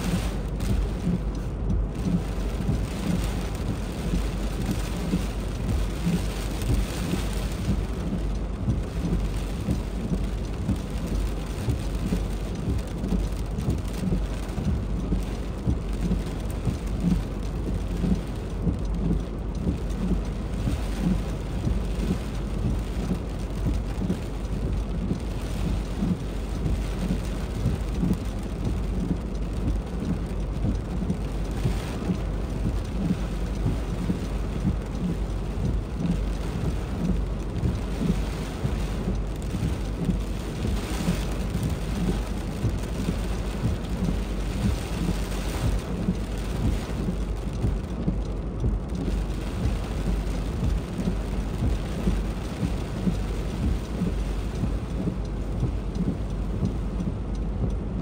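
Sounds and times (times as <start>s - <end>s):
heavy rain drumming: 0.0s - 58.0s
low rumble: 0.0s - 58.0s.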